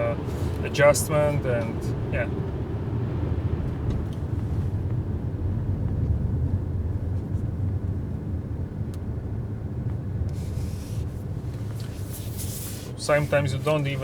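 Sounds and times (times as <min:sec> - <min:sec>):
road and drivetrain rumble in car: 0:00.0 - 0:14.0.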